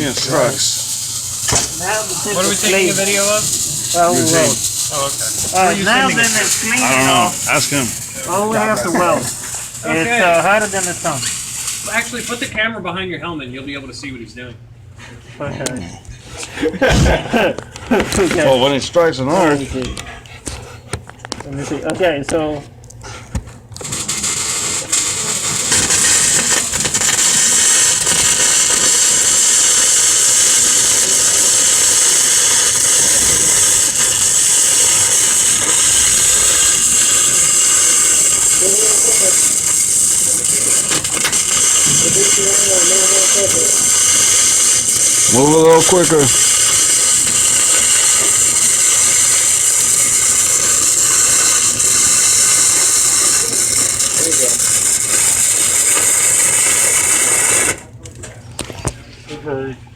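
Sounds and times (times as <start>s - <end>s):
welder arc crackling and hissing: 0.0s - 12.7s, 21.8s - 58.1s.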